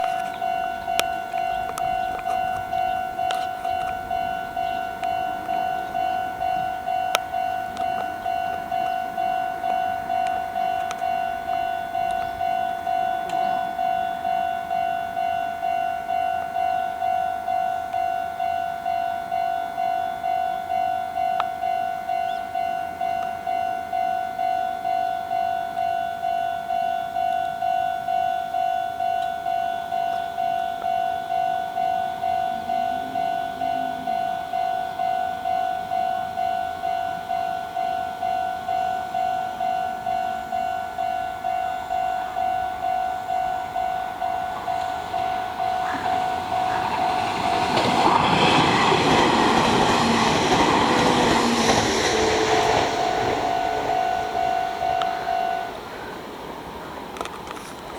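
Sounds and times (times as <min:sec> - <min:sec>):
level crossing warning bell: 0:00.0 - 0:57.9.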